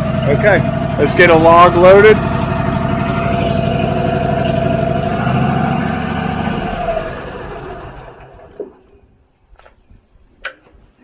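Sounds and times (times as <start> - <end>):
engine winding down: 0.0 - 8.9
gasoline engine running: 0.0 - 8.9.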